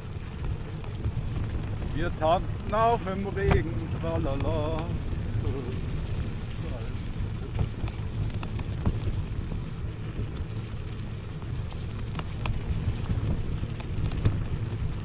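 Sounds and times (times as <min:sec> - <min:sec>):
tyres rumbling on ground: 0:00.0 - 0:15.0
wind on microphone: 0:00.0 - 0:15.0.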